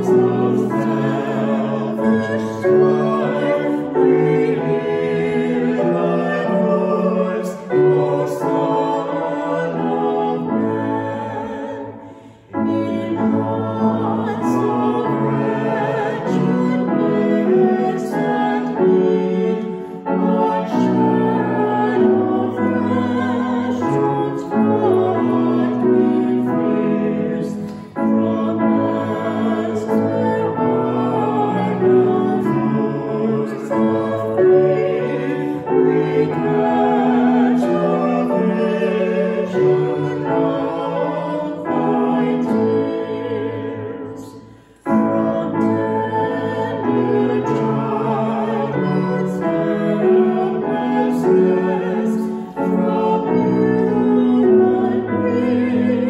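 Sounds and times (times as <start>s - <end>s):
grand piano: 0.0s - 56.0s.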